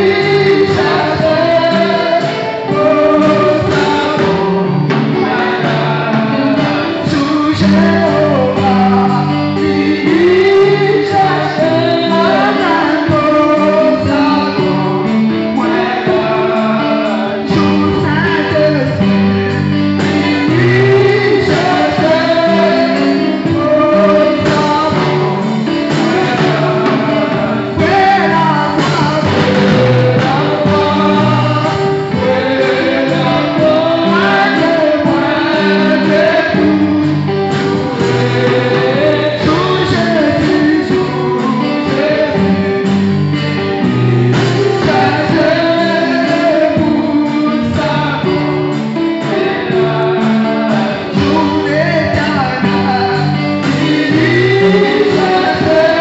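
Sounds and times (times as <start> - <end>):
guitar accompaniment: 0.0 - 56.0
steady bass line: 0.0 - 56.0.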